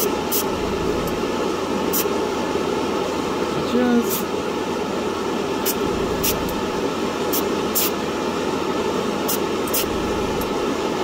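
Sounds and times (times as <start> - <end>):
steady fan rush: 0.0 - 11.0.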